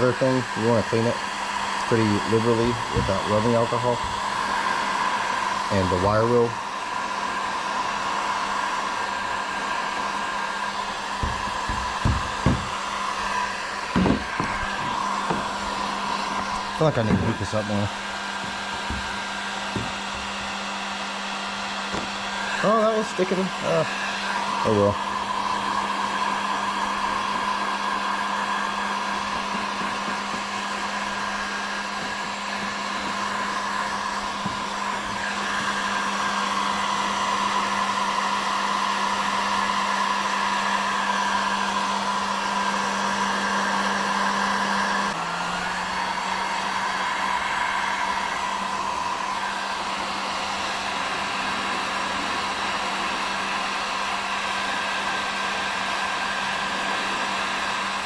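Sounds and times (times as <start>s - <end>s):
heat gun blowing hot air: 0.0s - 58.0s.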